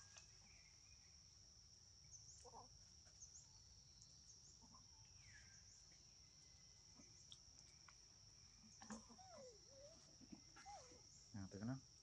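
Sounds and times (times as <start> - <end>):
faint bird chirps: 0.0 - 1.4, 2.0 - 11.8.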